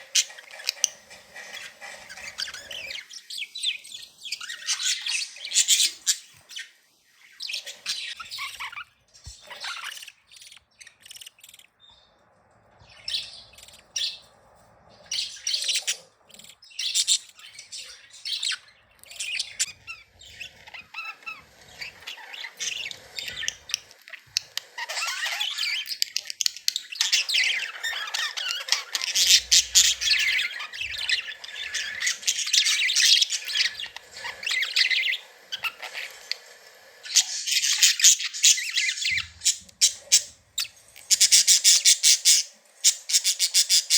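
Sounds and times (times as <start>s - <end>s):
budgerigars chattering and squawking: 0.0s - 12.1s, 12.8s - 43.9s.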